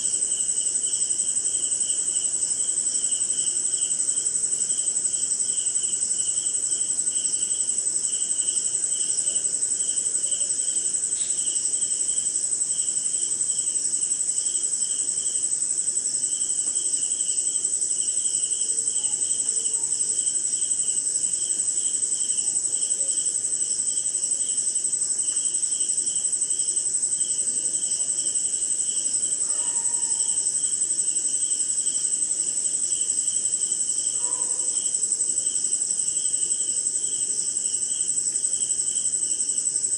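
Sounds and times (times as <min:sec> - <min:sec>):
high-pitched insect trill: 0:00.0 - 0:39.9
pulsing low insect chirping: 0:00.0 - 0:39.9.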